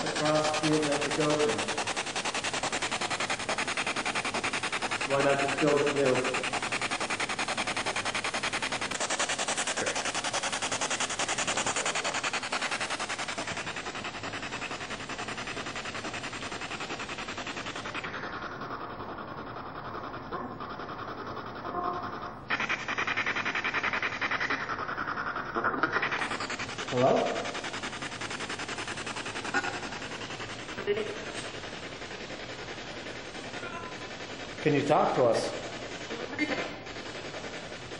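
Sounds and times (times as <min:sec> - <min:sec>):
chopped radio static hiss: 0:00.0 - 0:19.2, 0:19.9 - 0:37.9.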